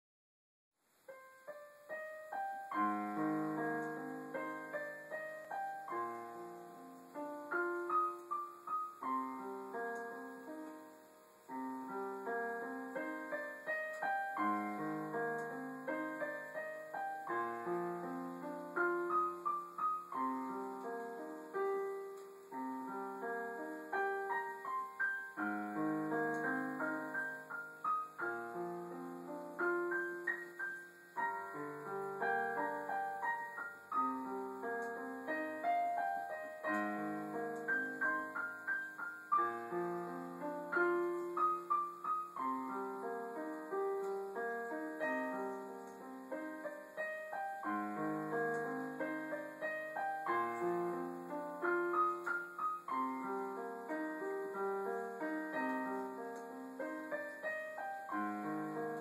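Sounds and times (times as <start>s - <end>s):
digital piano arpeggiated melody: 1.1s - 59.0s.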